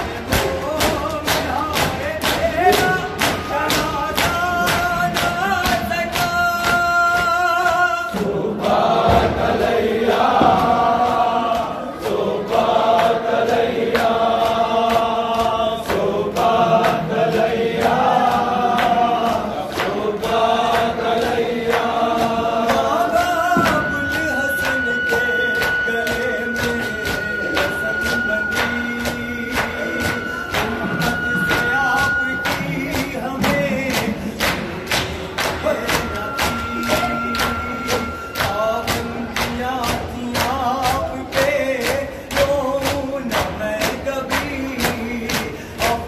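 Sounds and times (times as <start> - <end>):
men chanting a lament: 0.0 - 46.0
rhythmic chest-beating slaps: 0.0 - 46.0.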